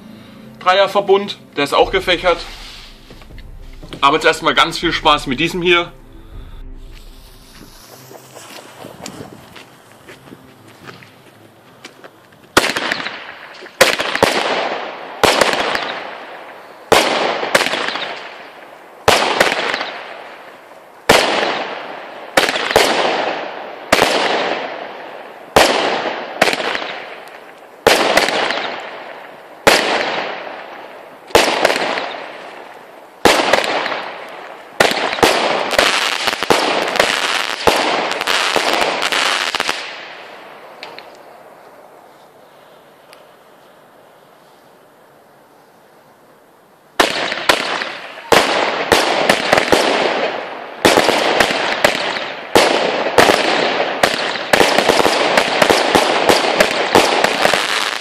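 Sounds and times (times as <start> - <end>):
fireworks bangs with hiss: 1.8 - 5.6, 6.2 - 9.8, 12.5 - 41.2, 47.0 - 58.0.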